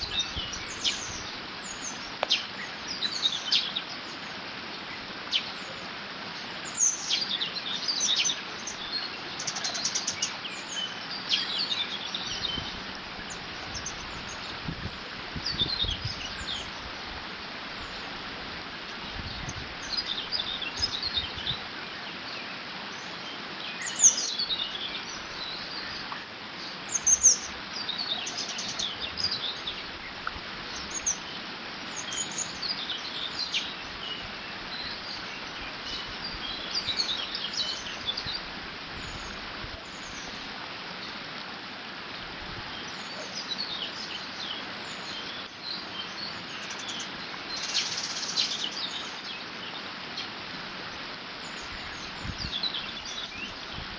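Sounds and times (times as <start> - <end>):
small birds chirping: 0.0 - 17.0, 17.8 - 41.2, 42.6 - 53.9.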